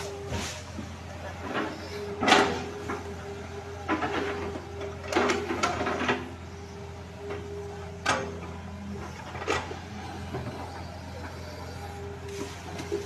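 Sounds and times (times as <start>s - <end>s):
excavator engine droning: 0.0s - 13.0s.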